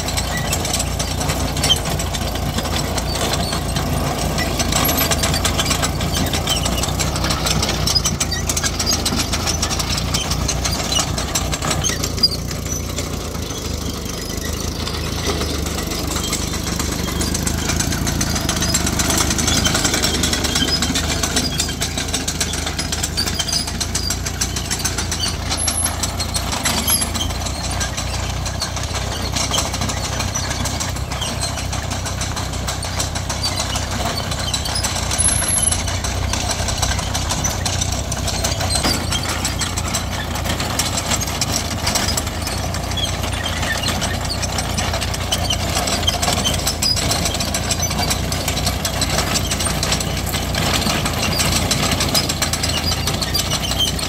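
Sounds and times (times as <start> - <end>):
small tractor engine chugging: 0.0 - 54.0.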